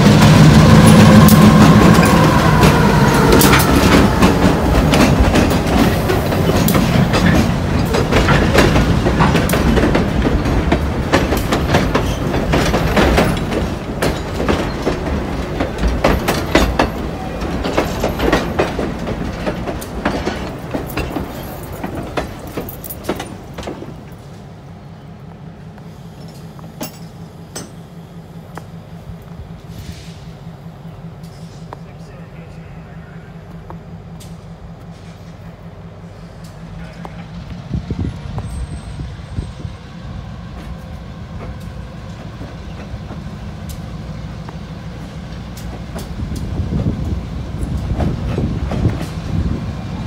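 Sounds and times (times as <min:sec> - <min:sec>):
steel wheels clanking over rail joints: 0:00.0 - 0:24.5, 0:26.1 - 0:32.7, 0:33.4 - 0:50.0
diesel locomotive engine drone: 0:00.0 - 0:50.0
freight cars rumbling: 0:00.0 - 0:50.0.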